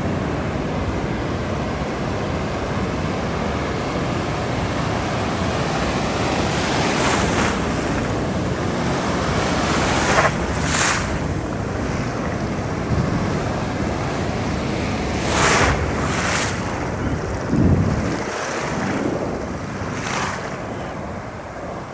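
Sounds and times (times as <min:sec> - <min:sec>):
ocean waves breaking on shore: 0:00.0 - 0:21.9.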